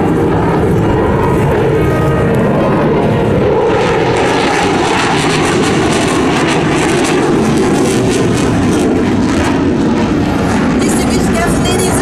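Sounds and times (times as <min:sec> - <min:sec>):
fighter jet roaring: 0:00.0 - 0:12.0.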